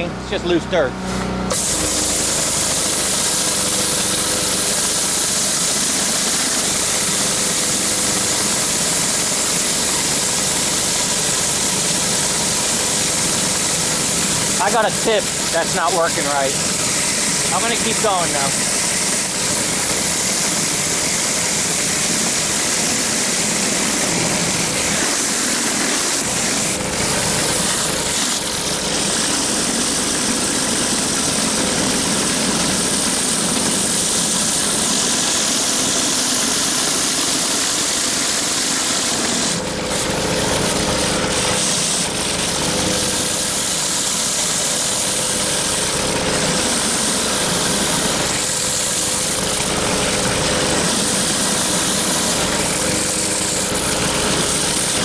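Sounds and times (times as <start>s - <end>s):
pressure washer engine running: 0.0s - 55.0s
water jets hissing on concrete: 1.5s - 55.0s.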